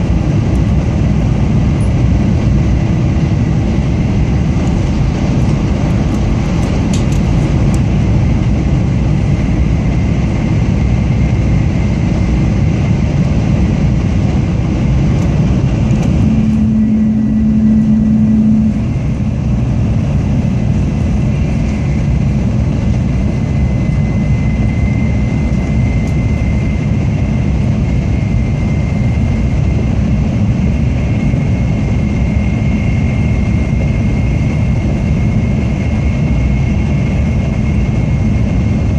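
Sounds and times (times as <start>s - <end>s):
steady low hum: 0.0s - 38.9s
train rumble and hiss inside car: 0.0s - 38.9s.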